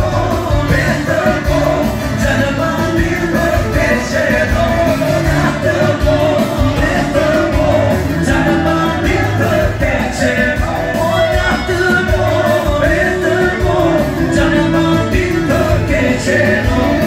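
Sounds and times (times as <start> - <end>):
loud dance music: 0.0 - 17.0
person singing: 0.0 - 17.0.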